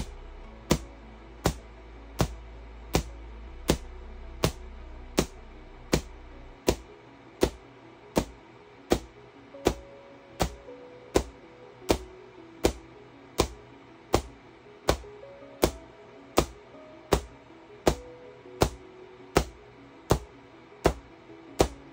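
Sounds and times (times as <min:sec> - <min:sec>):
background music: 0:00.0 - 0:21.9.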